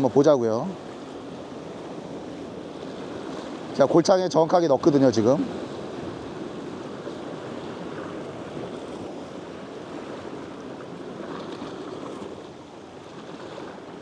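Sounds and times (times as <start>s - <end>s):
surf against rocky shore: 0.0s - 14.0s.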